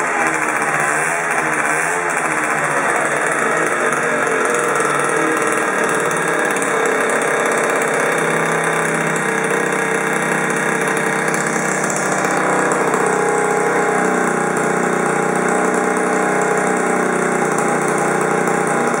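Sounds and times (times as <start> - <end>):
two-stroke scooter engine idling: 0.0 - 19.0.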